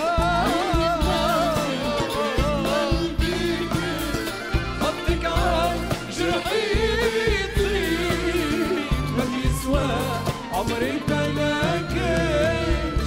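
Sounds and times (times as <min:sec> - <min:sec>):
band with drum beat: 0:00.0 - 0:13.0
man singing with vibrato: 0:00.0 - 0:13.0.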